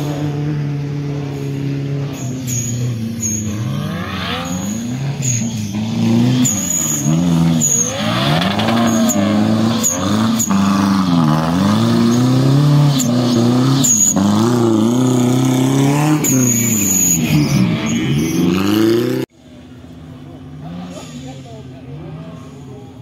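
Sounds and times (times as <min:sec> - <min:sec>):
engine revving hard: 0:00.0 - 0:19.3.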